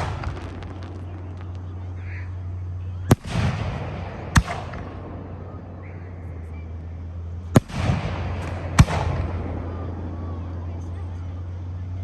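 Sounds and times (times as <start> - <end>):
fireworks bangs: 0.0 - 11.4
echoing rumble: 0.0 - 12.0
low hum: 0.0 - 12.0.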